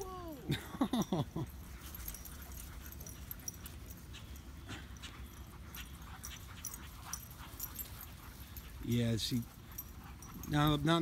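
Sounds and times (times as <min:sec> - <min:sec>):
dogs scuffling and chasing: 0:01.4 - 0:11.0.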